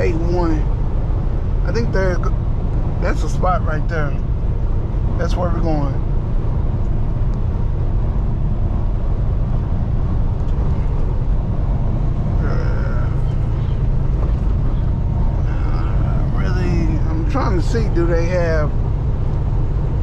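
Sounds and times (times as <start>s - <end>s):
road noise: 0.0s - 20.0s
truck engine rumble: 0.0s - 20.0s.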